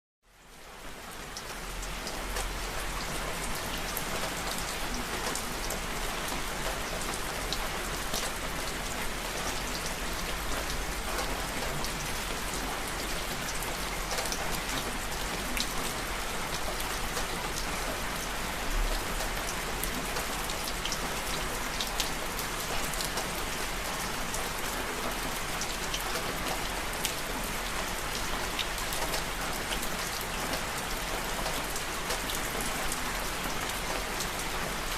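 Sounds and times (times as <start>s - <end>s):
rain on a hard surface: 0.2s - 34.9s.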